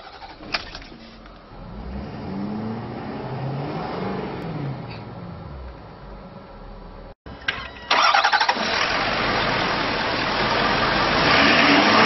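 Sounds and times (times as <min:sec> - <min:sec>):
diesel engine starting and revving: 0:00.0 - 0:00.6, 0:01.5 - 0:06.2, 0:07.5 - 0:12.0.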